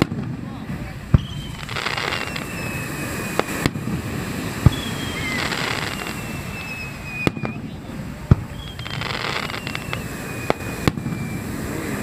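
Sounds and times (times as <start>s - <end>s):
firework shells bursting: 0.0s - 12.0s
hissing crackle of fireworks: 0.0s - 12.0s
high falling firework whistles: 1.1s - 12.0s.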